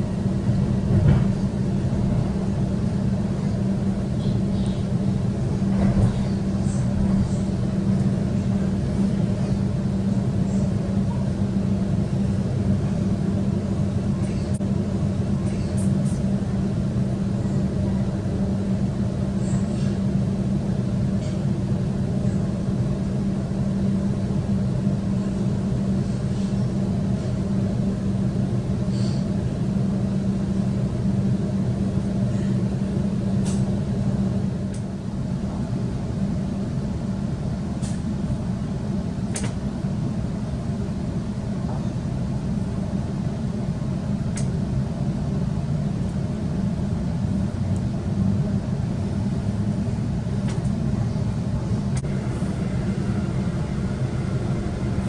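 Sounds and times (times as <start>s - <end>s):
train electric hum: 0.0s - 55.0s
train running rumble: 0.0s - 55.0s.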